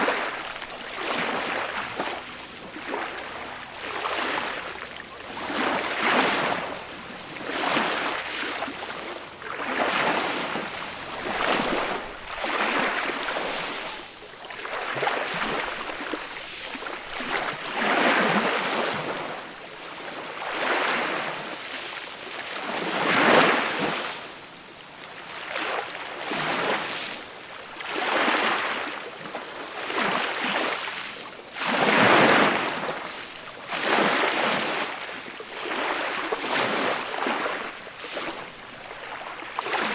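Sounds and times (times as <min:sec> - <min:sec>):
gentle waves washing onto beach: 0:00.0 - 0:39.9.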